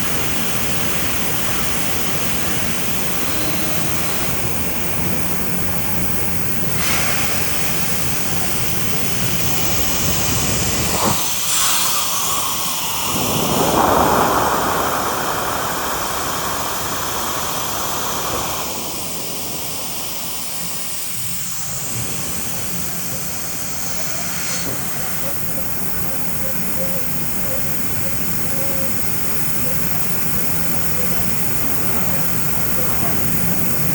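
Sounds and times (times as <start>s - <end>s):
machining center hissing: 0.0s - 33.9s.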